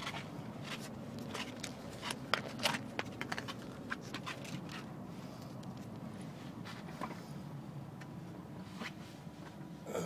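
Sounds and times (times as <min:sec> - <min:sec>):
road rumble inside car: 0:00.0 - 0:10.0.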